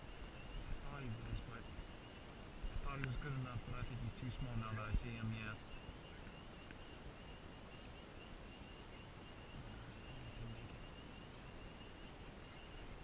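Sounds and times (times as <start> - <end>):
chorus of high chirps: 0.0 - 13.0
faint low hum: 0.0 - 13.0.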